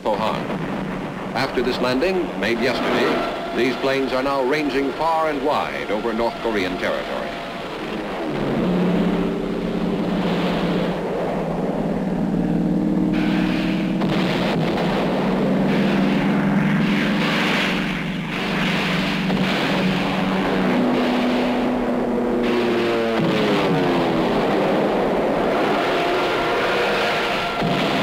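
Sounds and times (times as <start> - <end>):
aircraft engine drone: 0.0 - 28.0.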